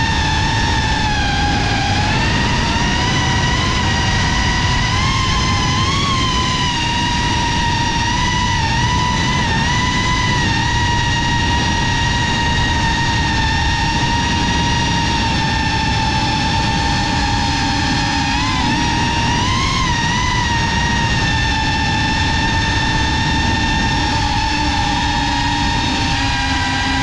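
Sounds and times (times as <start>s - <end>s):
drone motors whining: 0.0s - 27.0s
rushing air: 0.0s - 27.0s.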